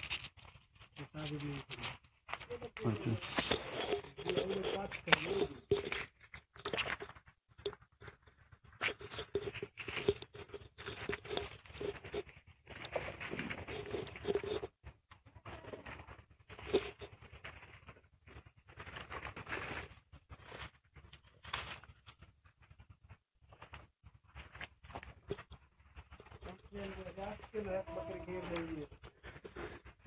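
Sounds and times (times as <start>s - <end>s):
goats rustling and tearing leaves: 0.0s - 7.3s, 8.0s - 30.0s
goats chewing dry pods: 0.0s - 30.0s.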